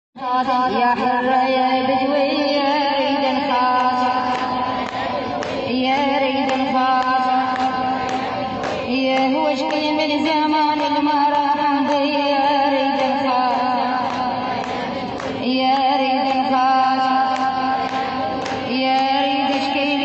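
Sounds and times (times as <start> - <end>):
woman chanting lament: 0.2 - 20.0.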